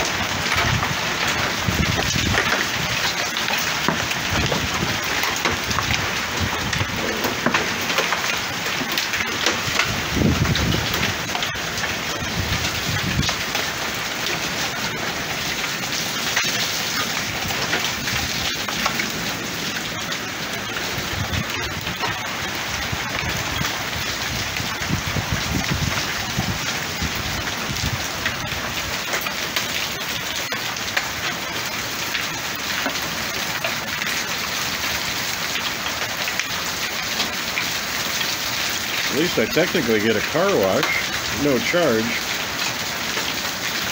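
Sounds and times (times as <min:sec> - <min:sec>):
hailstones ticking: 0:00.0 - 0:43.9
heavy rain hissing: 0:00.0 - 0:43.9.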